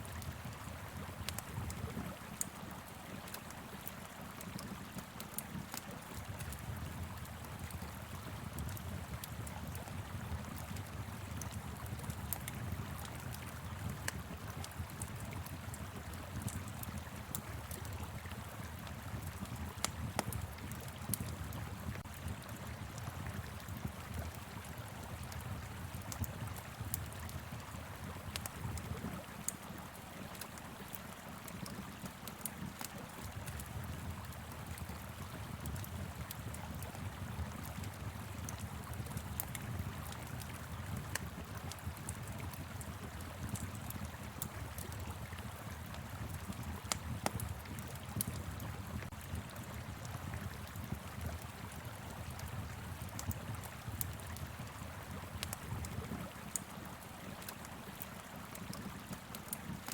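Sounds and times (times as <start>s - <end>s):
wood fire crackling and popping: 0.1s - 59.9s.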